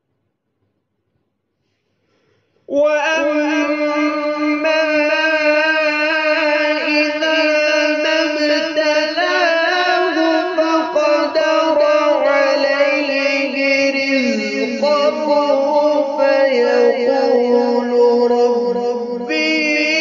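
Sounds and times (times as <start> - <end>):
man chanting melodically: 2.7 - 20.0.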